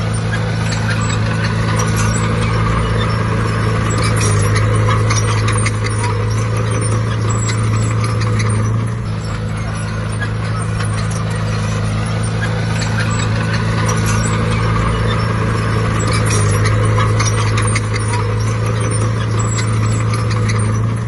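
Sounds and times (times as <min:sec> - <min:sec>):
large diesel engine running: 0:00.0 - 0:21.0
metallic clanks and rattles: 0:00.0 - 0:21.0.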